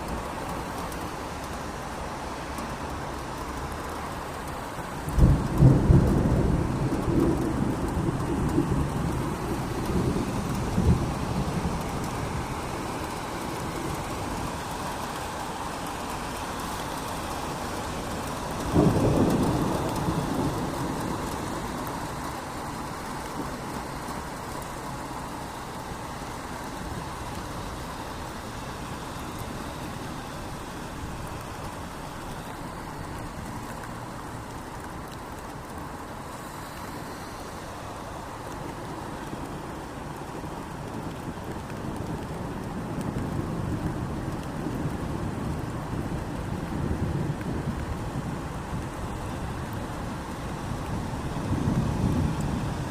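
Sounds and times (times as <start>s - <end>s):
steady rain: 0.0s - 52.9s
thunder crack and rumble: 3.3s - 35.8s, 38.4s - 52.9s.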